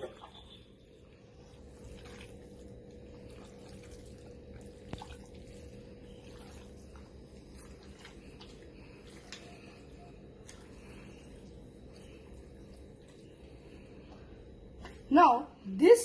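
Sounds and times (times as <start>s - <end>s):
wet squelching of hand mixing: 0.0s - 15.1s
low hum: 0.0s - 16.0s.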